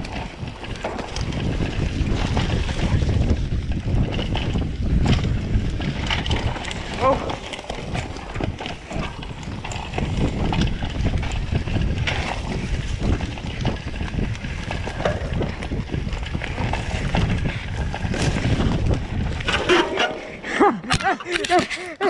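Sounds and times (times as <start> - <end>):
bike tyres rumbling: 0.0 - 21.9
wind buffeting microphone: 0.0 - 21.9
bike frame rattling: 0.0 - 22.0.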